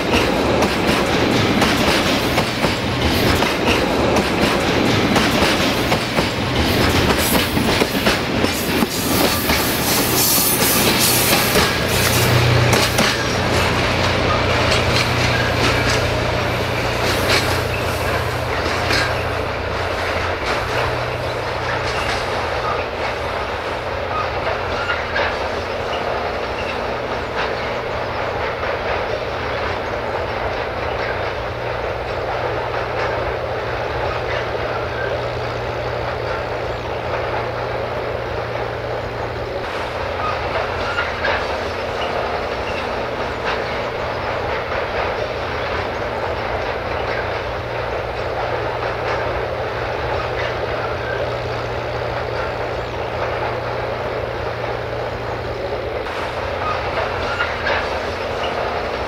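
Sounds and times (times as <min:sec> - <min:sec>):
freight train rolling past: 0:00.0 - 0:59.0
wheels clicking over rail joints: 0:00.0 - 0:59.0.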